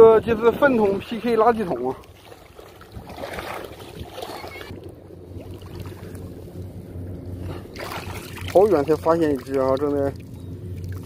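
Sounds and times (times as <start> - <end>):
faint water splashing: 0.0 - 11.0
wind rumble on microphone: 0.0 - 11.0.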